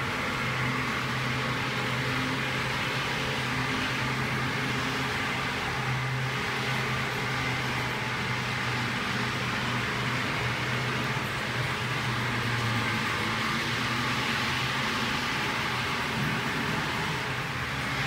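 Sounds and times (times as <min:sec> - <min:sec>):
model train motor hum: 0:00.0 - 0:18.0.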